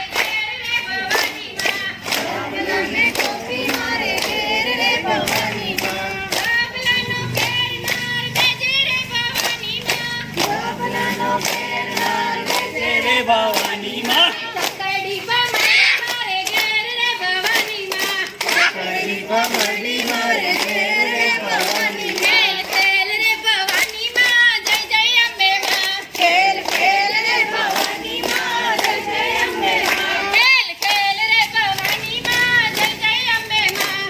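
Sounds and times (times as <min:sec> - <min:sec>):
people singing: 0:00.0 - 0:34.0
rhythmic hand claps: 0:00.0 - 0:34.0.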